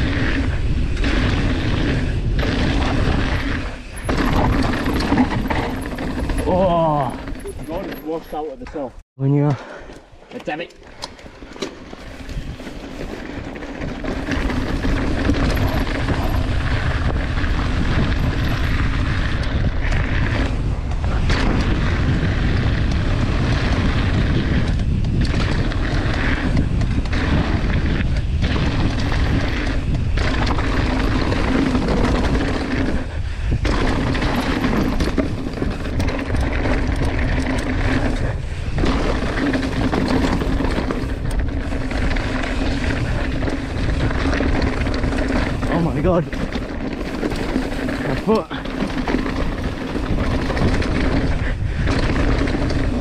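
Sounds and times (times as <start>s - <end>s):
tyres rattling over gravel: 0.0s - 9.0s, 10.4s - 53.0s
wind buffeting microphone: 0.0s - 9.0s, 11.2s - 53.0s.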